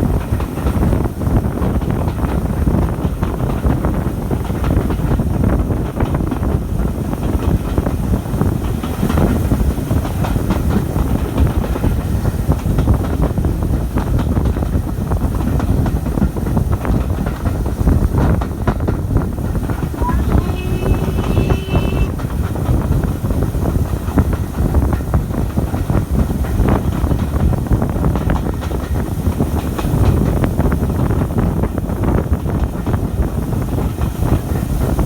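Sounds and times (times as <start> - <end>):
wheels rumbling on rail: 0.0 - 35.0.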